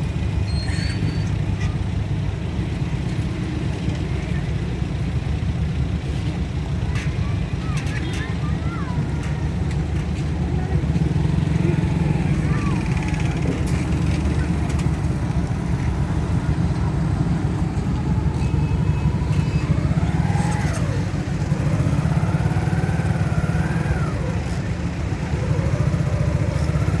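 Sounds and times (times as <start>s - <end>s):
train diesel engine rumbling: 0.0s - 27.0s.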